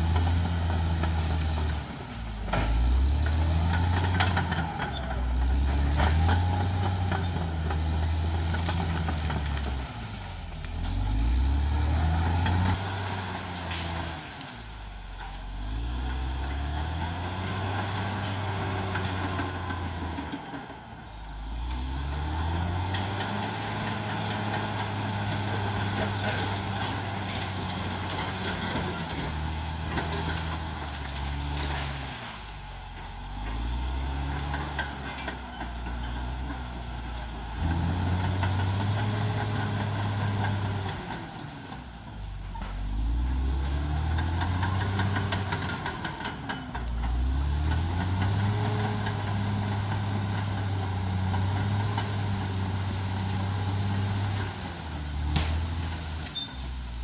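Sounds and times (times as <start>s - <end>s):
bulldozer diesel engine revving: 0.0s - 57.0s.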